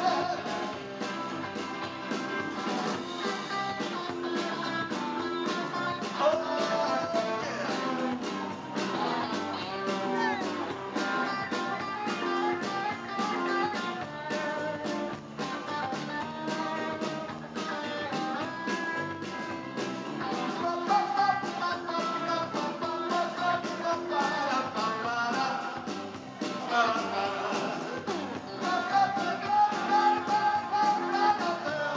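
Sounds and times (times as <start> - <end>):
live rock band playing: 0.0 - 31.9.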